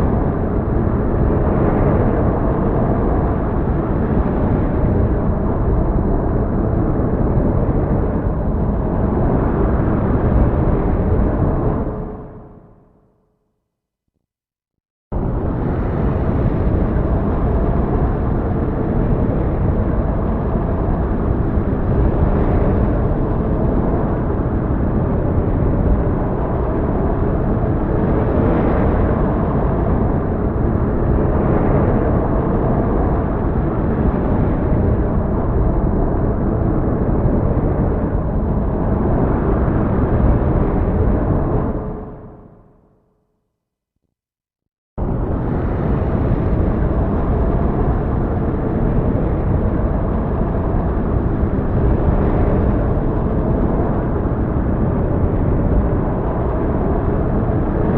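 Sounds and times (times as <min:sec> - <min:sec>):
heavy storm rumble: 0:00.0 - 0:12.6, 0:15.1 - 0:42.7, 0:45.0 - 0:57.9.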